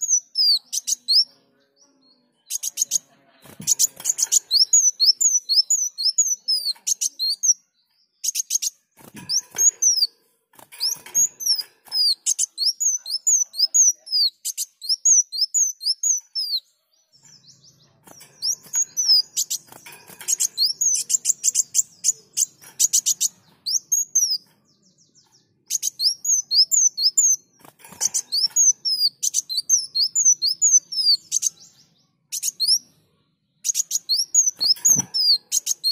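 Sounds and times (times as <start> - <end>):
bird singing high chirps and trills: 0.0 - 35.9.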